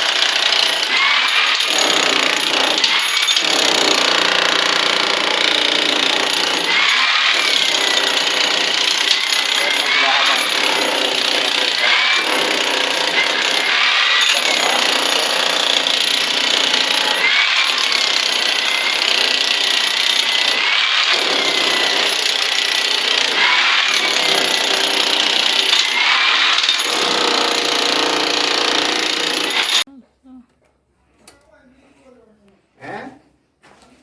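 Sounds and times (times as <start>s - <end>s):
loud power tool running: 0.0s - 29.8s.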